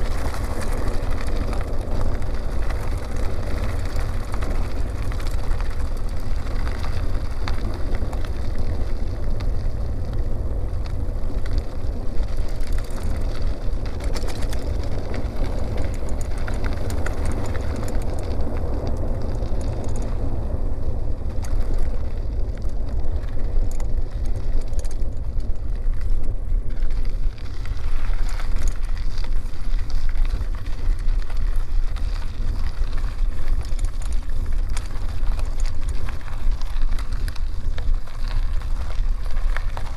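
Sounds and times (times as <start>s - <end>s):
bicycle tyre noise: 0.0s - 39.9s
small clicks from road: 0.0s - 39.9s
wind rumble on microphone: 0.0s - 39.9s.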